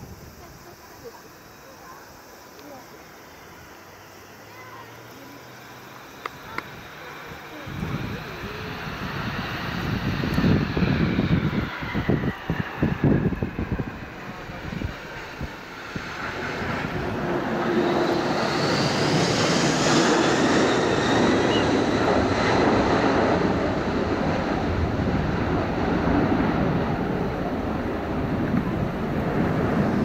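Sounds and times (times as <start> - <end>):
jet engines roaring: 2.1 - 30.0.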